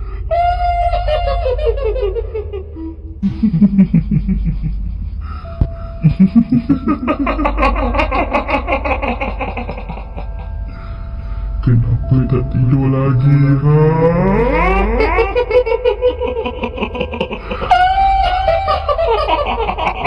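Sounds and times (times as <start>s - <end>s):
eerie background music: 0.0s - 20.0s
steady low hum: 0.0s - 20.0s
cackling ghost laugh: 0.3s - 10.9s, 13.3s - 20.0s.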